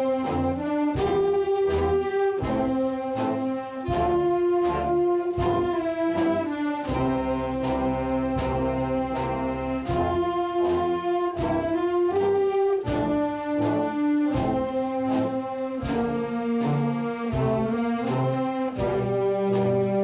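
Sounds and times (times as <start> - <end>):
brass ensemble playing processional music: 0.0 - 20.0.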